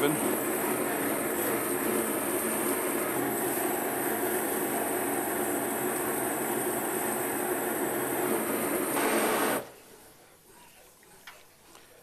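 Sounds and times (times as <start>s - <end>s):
gas torch flame hissing: 0.0s - 9.8s.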